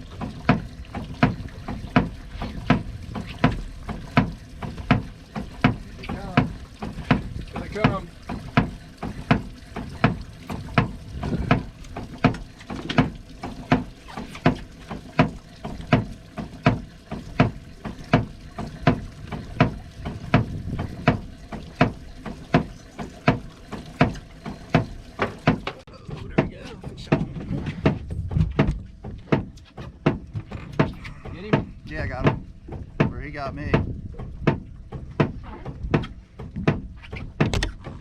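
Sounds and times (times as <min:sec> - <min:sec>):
boat hull thumping: 0:00.0 - 0:38.0.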